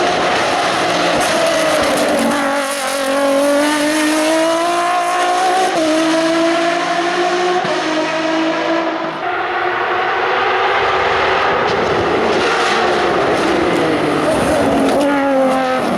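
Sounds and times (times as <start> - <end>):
race car engine accelerating: 0.0 - 15.9.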